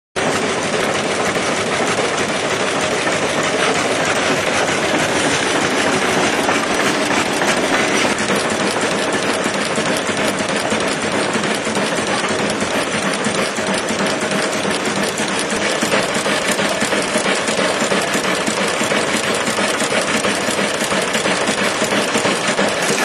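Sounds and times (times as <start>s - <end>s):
tractor engine clattering: 0.2s - 23.0s.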